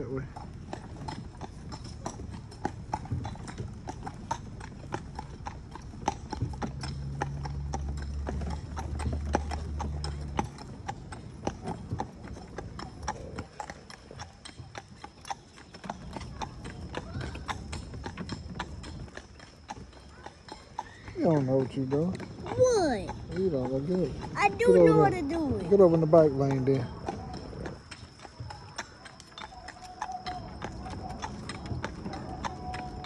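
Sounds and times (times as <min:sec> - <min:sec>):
hooves clip-clopping on asphalt: 0:00.0 - 0:33.0.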